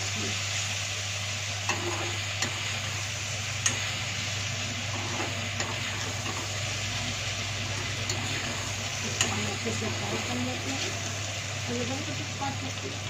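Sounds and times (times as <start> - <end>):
pasta and vegetables sizzling: 0.0 - 13.0.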